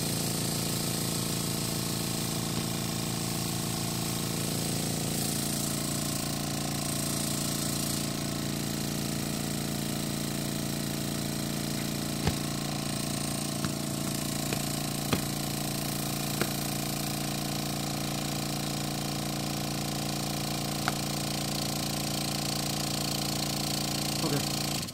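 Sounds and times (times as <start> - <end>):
electric air pump humming: 0.0 - 24.9.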